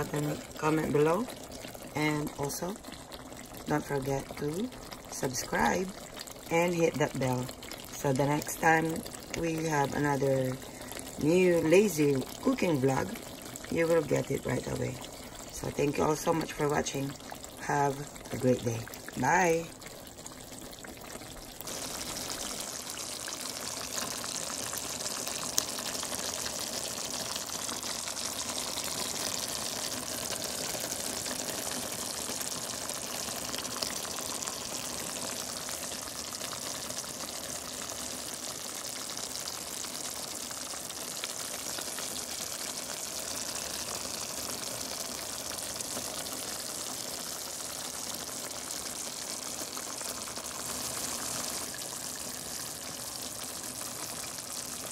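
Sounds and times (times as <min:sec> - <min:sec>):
stew bubbling in a pot: 0:00.0 - 0:54.9.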